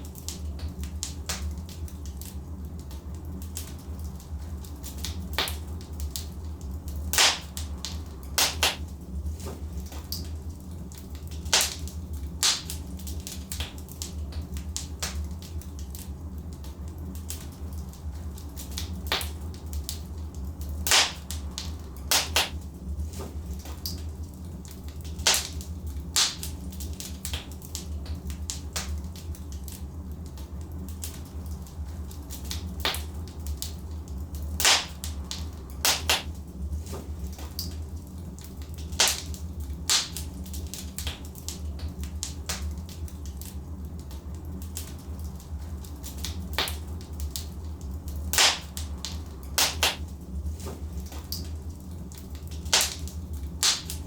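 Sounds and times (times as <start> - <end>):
burning logs crackling: 0.0 - 54.0
low fire rumble: 0.0 - 54.0
sharp pops from fire: 0.0 - 54.0.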